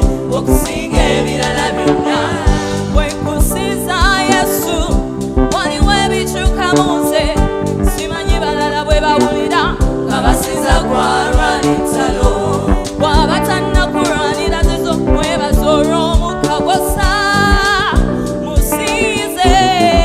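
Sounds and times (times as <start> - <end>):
backing track with drum beat: 0.0 - 20.0
voices singing gospel song: 0.0 - 20.0.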